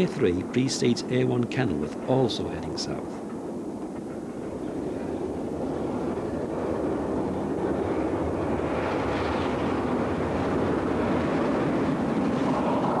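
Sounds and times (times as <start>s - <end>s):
steam train rumble: 0.0s - 13.0s.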